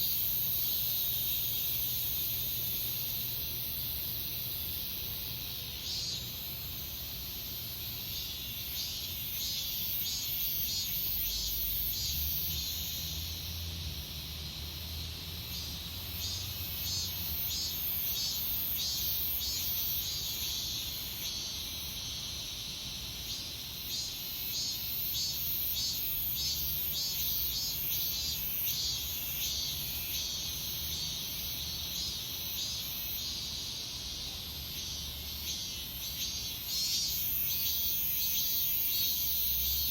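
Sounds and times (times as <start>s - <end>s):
cicadas buzzing in chorus: 0.0s - 39.9s.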